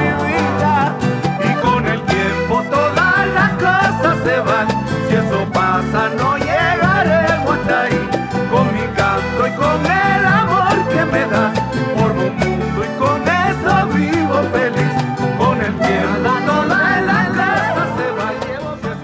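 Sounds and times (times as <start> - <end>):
guitar and bass with steady beat: 0.0 - 19.0.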